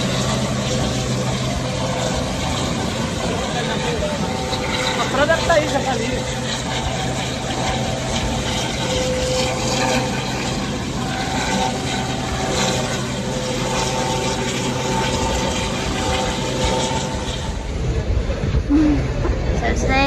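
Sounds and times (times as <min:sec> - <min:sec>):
low steady hum: 0:00.0 - 0:20.0
wind buffeting microphone: 0:00.0 - 0:20.0.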